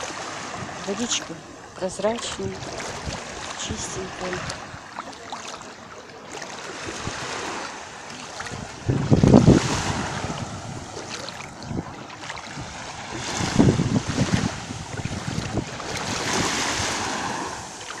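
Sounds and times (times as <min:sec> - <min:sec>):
small waves lapping at shore: 0:00.0 - 0:18.0.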